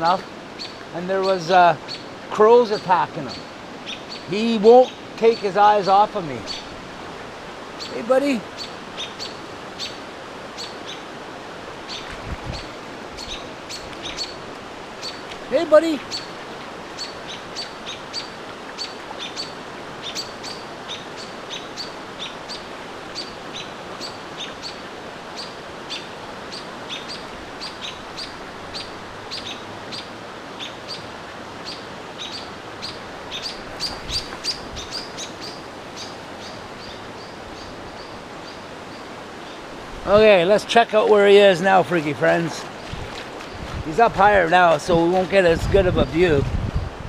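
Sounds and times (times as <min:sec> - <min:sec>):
songbirds chip calls: 0:00.0 - 0:06.8, 0:07.7 - 0:46.4
steady background hiss: 0:00.0 - 0:47.0.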